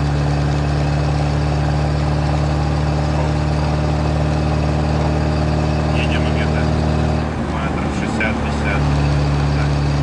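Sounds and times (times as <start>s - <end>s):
car engine running: 0.0s - 10.0s
road noise: 0.0s - 10.0s.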